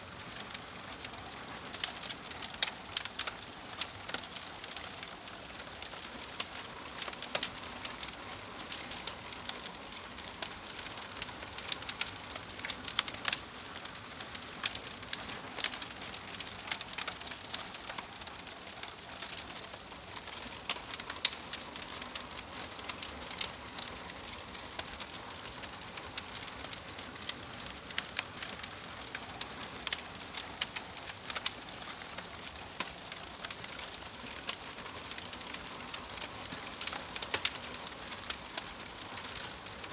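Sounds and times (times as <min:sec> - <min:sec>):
fire crackling and popping: 0:00.1 - 0:39.9.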